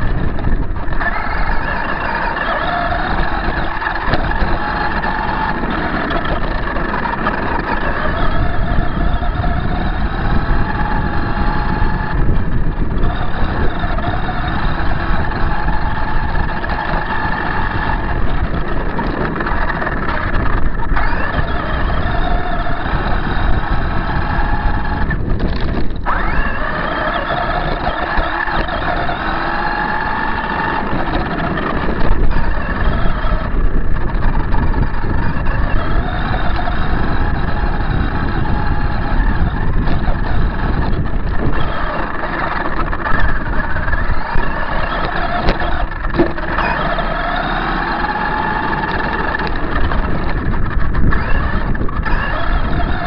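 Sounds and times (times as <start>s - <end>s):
electric motor whining: 0.0s - 53.0s
rumble and rattle over rough ground: 0.0s - 53.0s.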